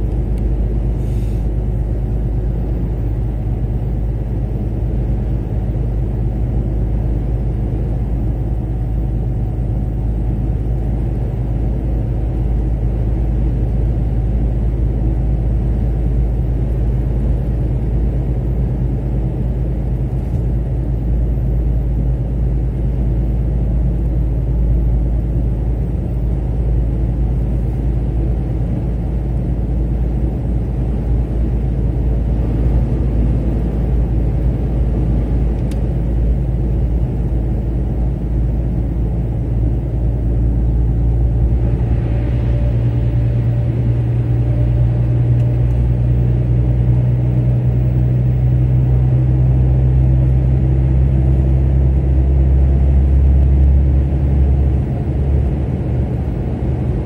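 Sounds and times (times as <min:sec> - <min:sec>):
car engine and tyre road noise: 0:00.0 - 0:57.0.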